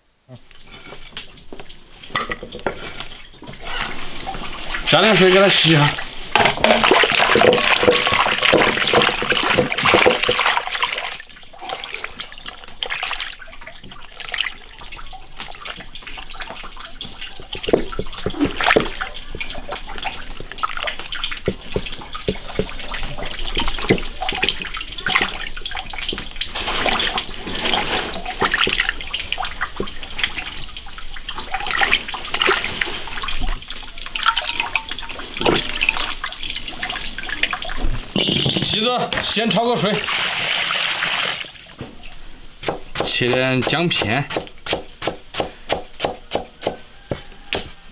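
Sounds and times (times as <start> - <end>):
water splashing and sloshing: 0.4 - 47.9
water pouring into basin: 3.2 - 41.7.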